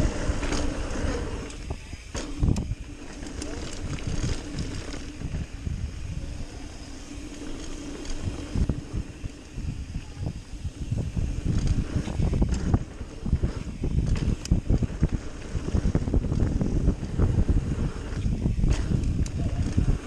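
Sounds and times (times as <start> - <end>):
bike rattling and knocking: 0.0 - 20.0
bike tires rumbling on dirt: 0.0 - 20.0
wind buffeting microphone: 0.0 - 20.0.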